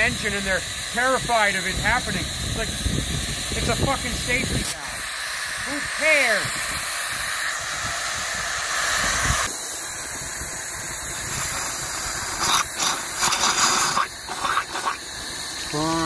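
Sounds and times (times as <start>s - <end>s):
steam hissing from safety valve: 0.0s - 16.0s.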